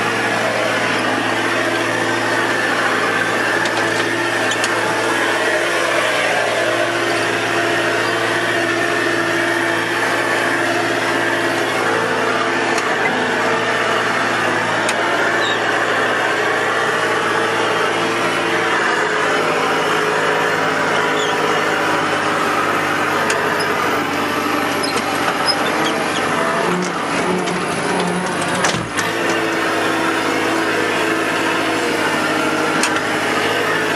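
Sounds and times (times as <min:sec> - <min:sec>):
tractor engine droning: 0:00.0 - 0:33.9.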